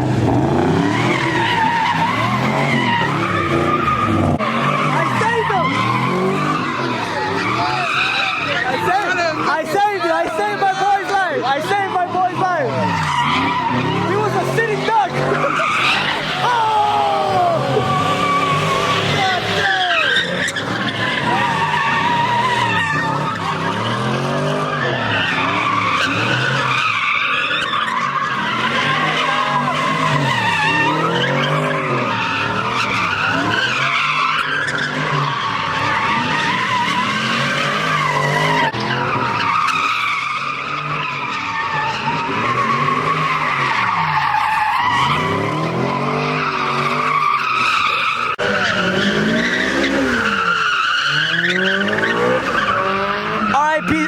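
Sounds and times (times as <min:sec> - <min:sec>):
car engine revving: 0:00.0 - 0:54.0
car tyres squealing: 0:00.0 - 0:54.0.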